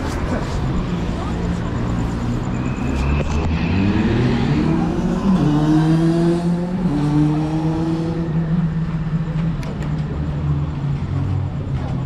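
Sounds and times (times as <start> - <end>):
traffic noise: 0.0 - 12.0
vehicle engine accelerating: 0.8 - 12.0.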